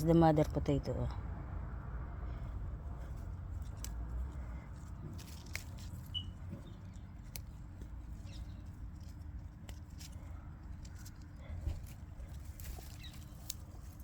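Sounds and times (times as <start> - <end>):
hands rustling in soil: 2.3 - 14.0.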